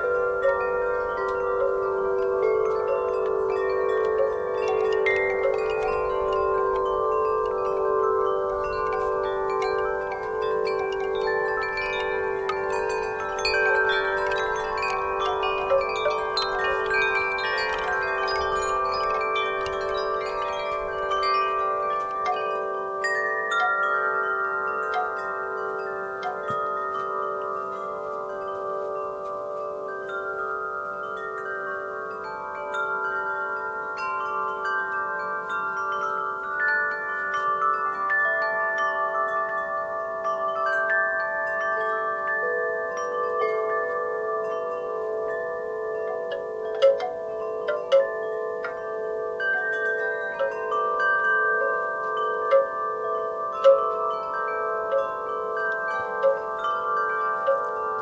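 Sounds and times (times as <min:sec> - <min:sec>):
wind chimes ringing: 0:00.0 - 0:58.0.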